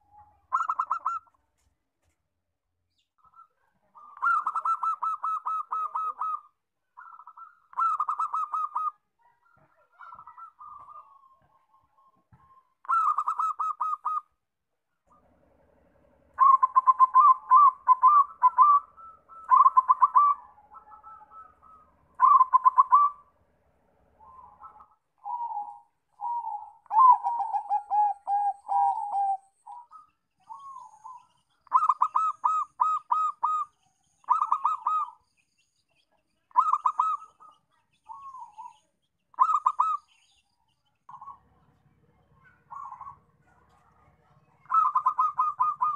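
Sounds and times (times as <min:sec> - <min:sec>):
doves cooing: 0:00.0 - 0:01.4, 0:03.2 - 0:14.4, 0:15.1 - 0:35.2, 0:36.5 - 0:40.2, 0:41.1 - 0:45.9.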